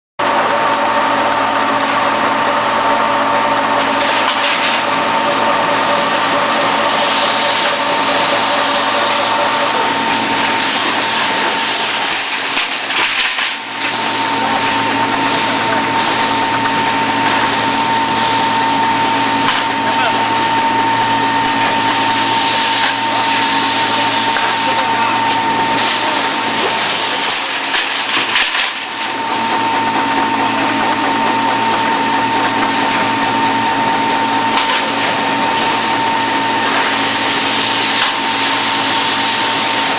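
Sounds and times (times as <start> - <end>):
seam welding machine humming: 0.2 - 39.9.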